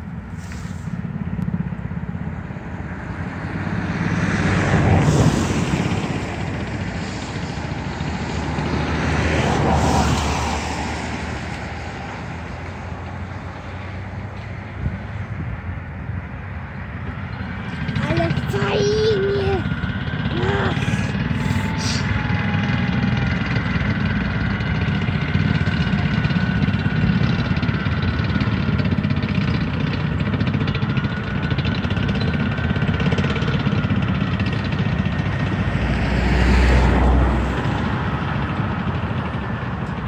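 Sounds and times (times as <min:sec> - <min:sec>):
tank turbine engines whining: 0:00.0 - 0:40.0.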